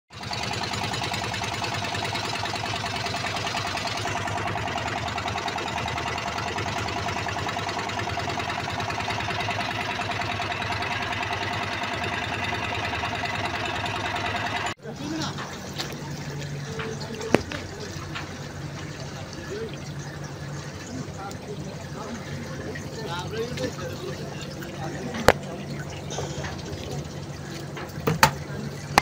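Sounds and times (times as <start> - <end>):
boat engine knocking steadily: 0.1 - 29.0.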